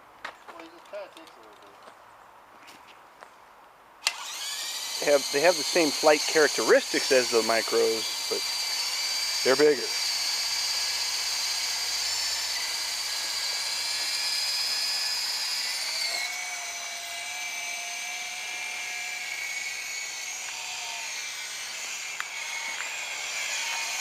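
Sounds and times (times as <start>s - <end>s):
rc helicopter motors whining: 4.0s - 24.0s.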